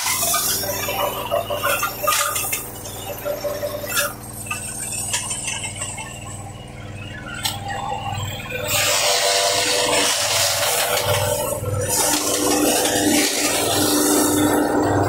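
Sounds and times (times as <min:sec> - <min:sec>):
forage chopper running: 0:00.0 - 0:15.0.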